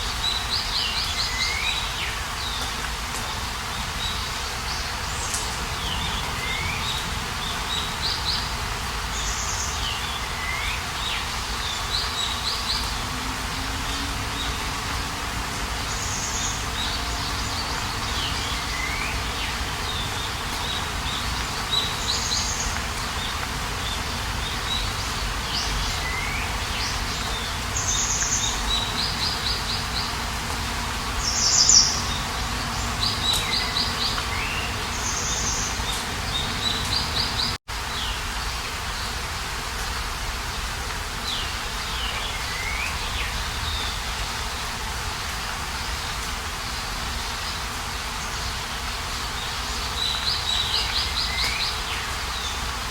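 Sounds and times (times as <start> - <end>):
outdoor ambience hiss: 0.0 - 52.9
songbirds chirping and trilling: 0.0 - 52.9.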